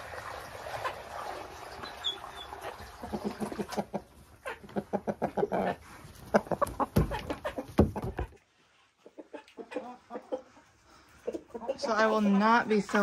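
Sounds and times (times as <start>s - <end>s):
hens clucking: 0.7s - 13.0s.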